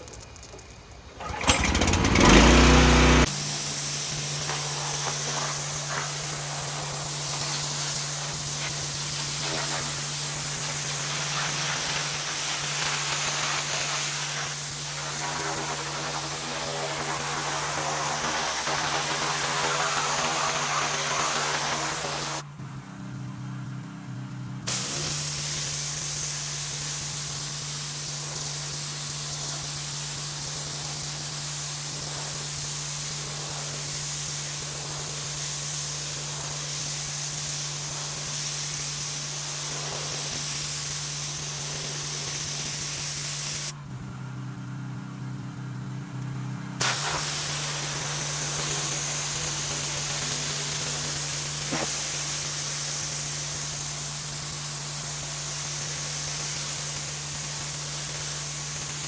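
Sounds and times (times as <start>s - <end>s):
pressure washer engine humming: 0.0s - 22.6s, 24.7s - 44.3s, 46.7s - 59.0s
pressure washer spray hissing: 1.2s - 22.5s, 24.7s - 43.8s, 46.8s - 59.0s.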